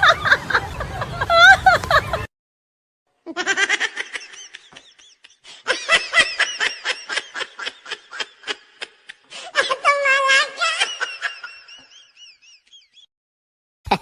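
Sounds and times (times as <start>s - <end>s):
person laughing: 0.0s - 2.3s, 3.3s - 13.1s.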